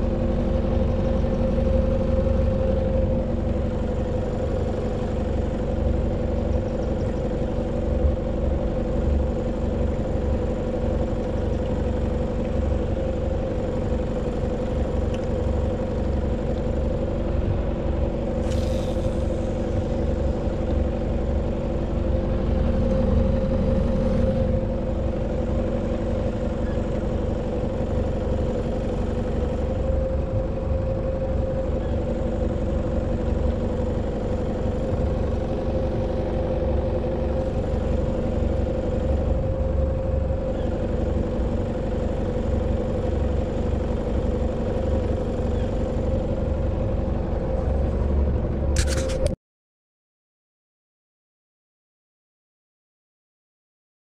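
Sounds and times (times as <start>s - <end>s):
boat engine idling: 0.0s - 49.4s.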